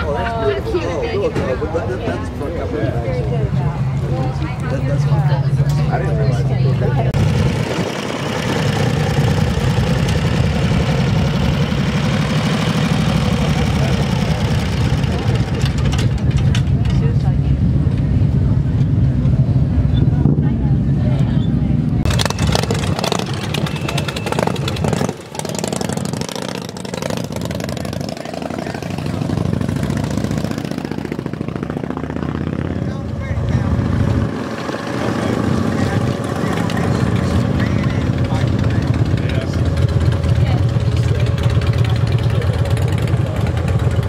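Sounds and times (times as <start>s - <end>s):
motorcycle engine running rough: 2.6s - 21.1s, 22.0s - 44.0s.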